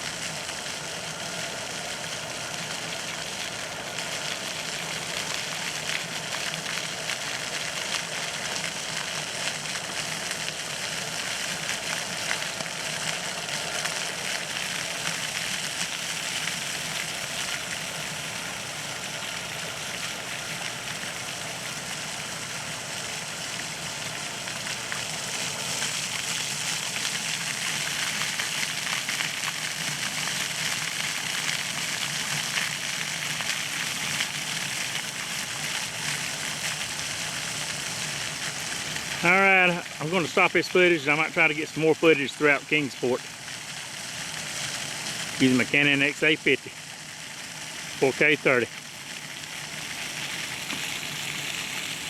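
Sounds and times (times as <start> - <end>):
fountain water splashing: 0.0 - 52.0.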